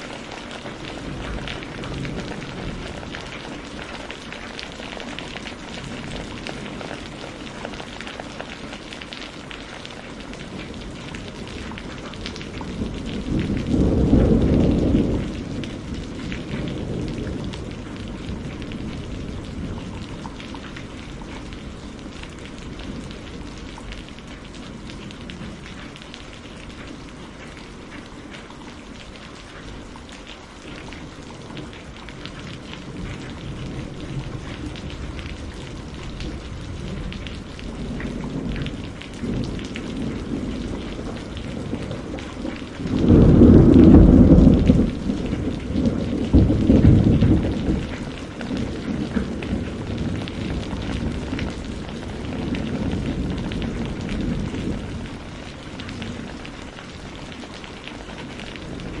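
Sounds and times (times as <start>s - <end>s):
rolling thunder: 0.0s - 8.1s, 10.3s - 27.1s, 30.7s - 59.0s
steady rain: 0.0s - 59.0s.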